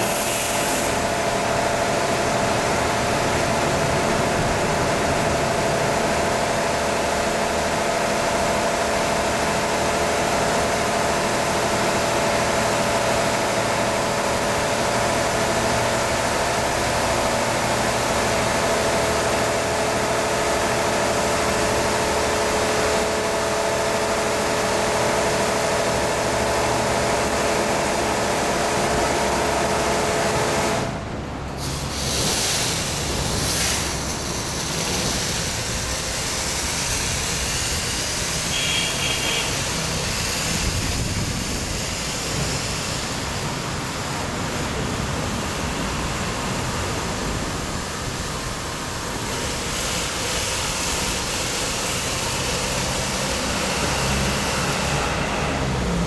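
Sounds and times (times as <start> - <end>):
car wash hiss: 0.0 - 56.0
car wash machine humming: 0.0 - 56.0.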